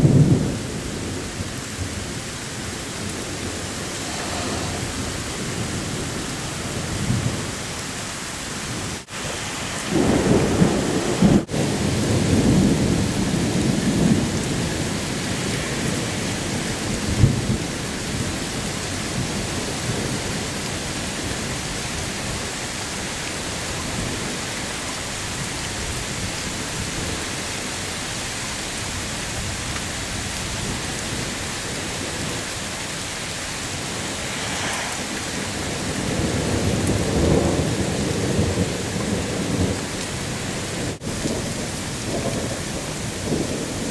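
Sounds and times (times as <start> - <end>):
low thunder rumbling: 0.0 - 21.5, 28.9 - 43.9
heavy rain pouring: 0.0 - 43.9.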